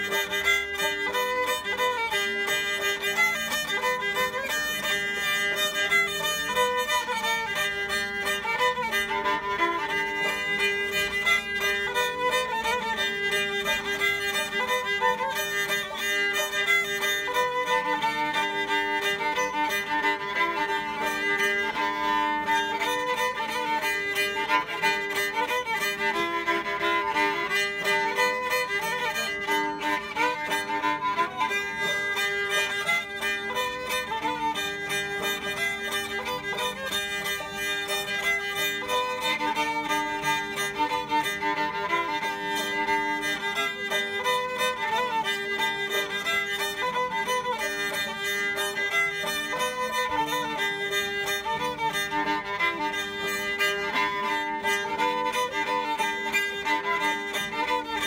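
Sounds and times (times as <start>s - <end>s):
banjo plucking: 0.0s - 58.0s
fiddle melody: 0.0s - 58.0s.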